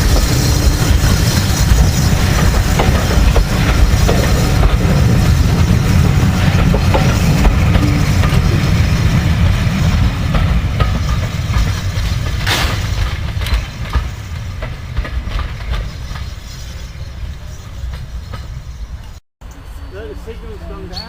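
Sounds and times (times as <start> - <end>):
steam hiss: 0.0 - 17.2
train wheels clattering over rails: 0.0 - 19.2.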